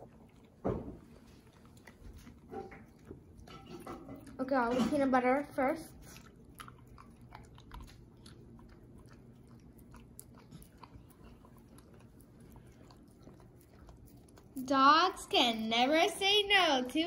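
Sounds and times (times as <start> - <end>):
dog licking and smacking: 0.0 - 15.6.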